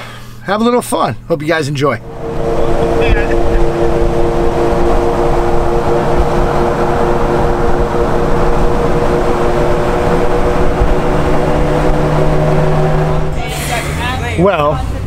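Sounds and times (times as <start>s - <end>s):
car driving drone: 1.4s - 15.0s.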